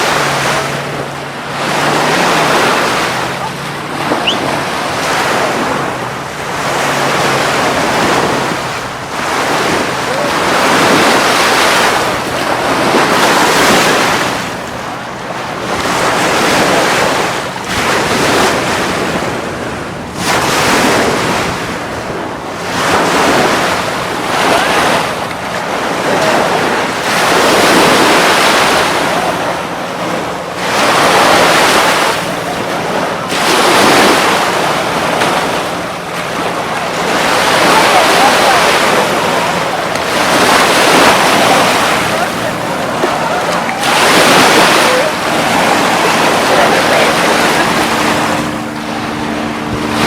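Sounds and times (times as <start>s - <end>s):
surf breaking on beach: 0.0s - 50.0s
wind buffeting microphone: 0.0s - 50.0s.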